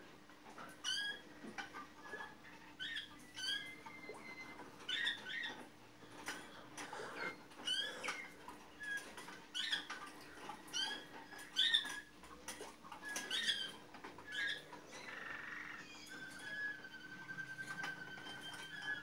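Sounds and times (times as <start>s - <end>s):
canary singing: 0.6s - 19.0s.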